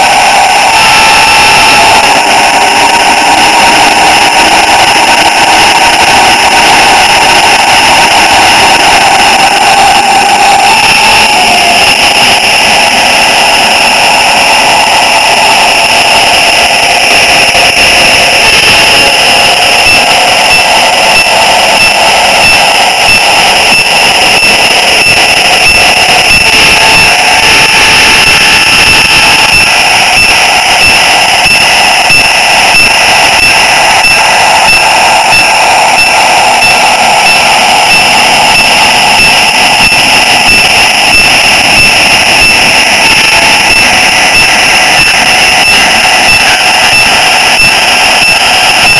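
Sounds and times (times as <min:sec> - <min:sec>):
model train motor whine: 0:00.0 - 0:48.9.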